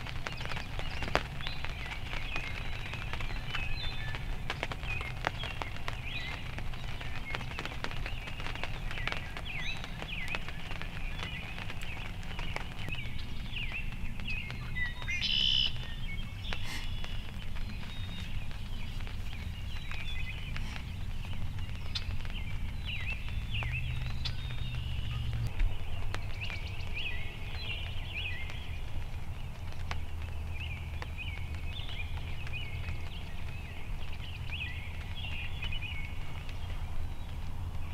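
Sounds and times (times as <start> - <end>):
faint ticks: 0.0 - 37.9
songbirds chirping: 0.0 - 37.9
steady low rumble: 0.0 - 37.9.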